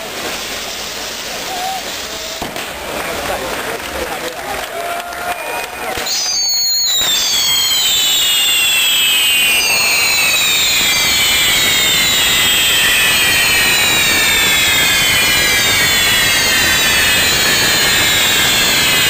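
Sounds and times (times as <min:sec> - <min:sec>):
fireworks rushing hiss: 0:00.0 - 0:04.4, 0:05.8 - 0:19.0
firework whistles falling in pitch: 0:00.2 - 0:02.6, 0:05.3 - 0:19.0.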